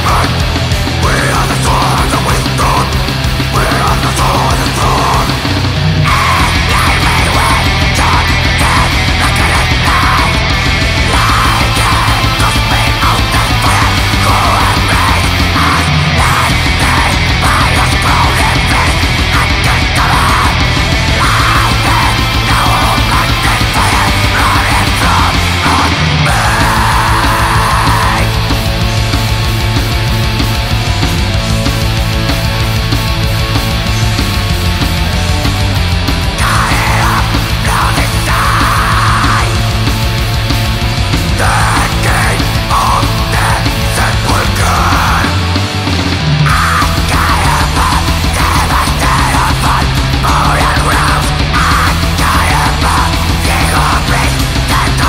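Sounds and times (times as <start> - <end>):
shrieked vocals: 0.0 - 29.3, 36.2 - 40.1, 41.2 - 55.0
black metal music: 0.0 - 55.0
distorted guitar: 0.0 - 55.0
fast drumming: 0.0 - 55.0.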